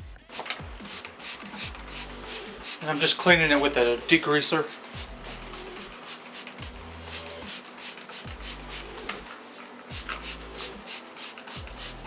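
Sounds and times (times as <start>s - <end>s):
hand scrubbing bike parts: 0.3s - 12.0s.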